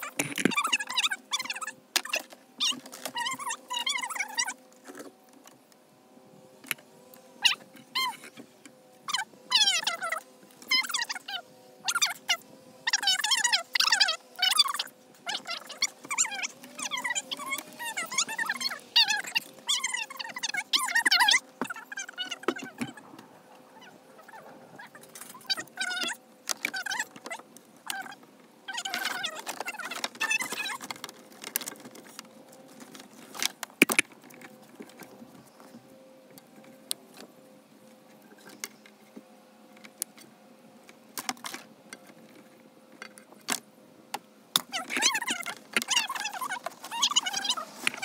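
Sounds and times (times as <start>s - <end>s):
cable rubbing and scraping: 0.0s - 5.2s, 6.5s - 37.3s, 44.7s - 48.0s.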